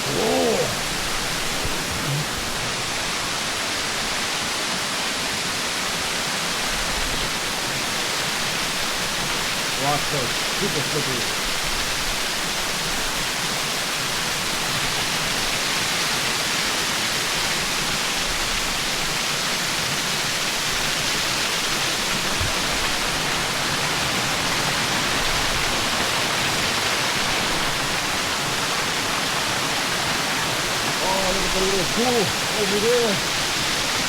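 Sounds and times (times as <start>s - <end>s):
river and waterfall rushing: 0.0s - 34.0s.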